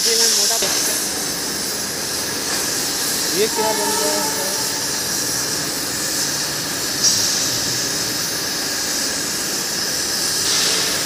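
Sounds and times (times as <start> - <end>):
gas cutting torches hissing: 0.0 - 11.0.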